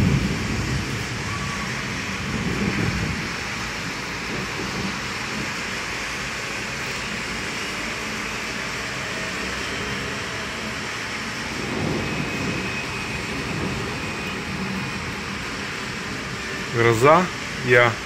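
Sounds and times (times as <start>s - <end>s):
car traffic on wet road: 0.0s - 18.0s
heavy rain hissing: 0.0s - 18.0s.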